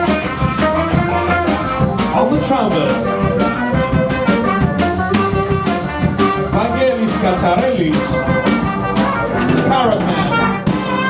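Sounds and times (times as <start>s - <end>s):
brass horns sliding notes: 0.0s - 11.0s
steady drum beat: 0.0s - 11.0s.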